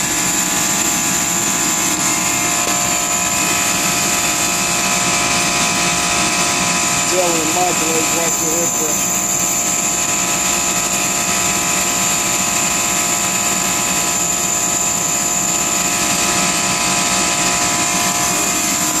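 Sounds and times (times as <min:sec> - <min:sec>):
compressor machine hum: 0:00.0 - 0:19.0
high-pitched whine: 0:00.0 - 0:19.0.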